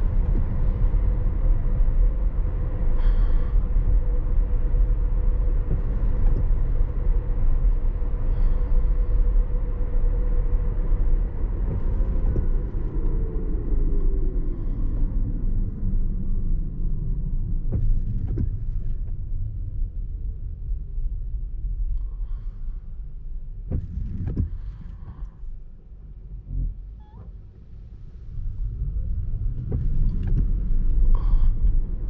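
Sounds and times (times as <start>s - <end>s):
road and tyre rumble in car: 0.0s - 32.0s.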